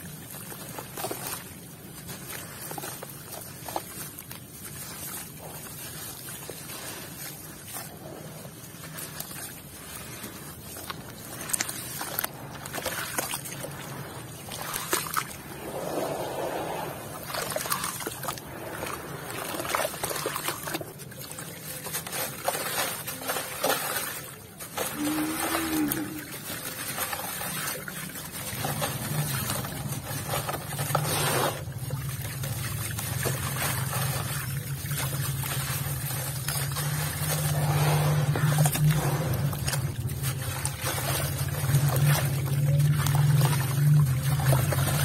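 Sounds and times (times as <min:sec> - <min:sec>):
gritty grains crunching: 0:00.0 - 0:45.0
hands sloshing in muddy water: 0:00.0 - 0:45.0
low steady hum: 0:00.0 - 0:45.0
water trickling: 0:00.0 - 0:45.0.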